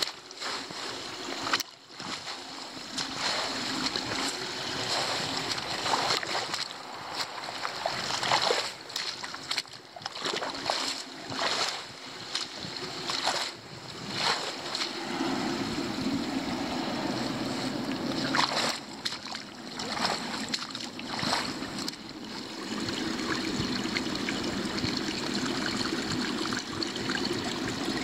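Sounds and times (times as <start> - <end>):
water rushing: 0.0 - 28.0
water splashing and sloshing: 0.0 - 28.0.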